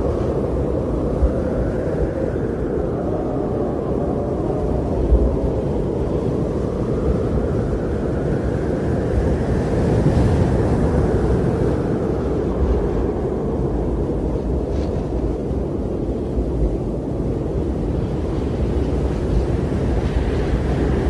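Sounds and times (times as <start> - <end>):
strong blizzard wind: 0.0 - 21.0.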